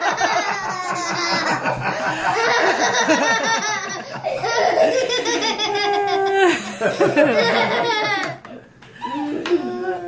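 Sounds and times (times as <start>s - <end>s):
boy laughing: 0.0s - 10.0s.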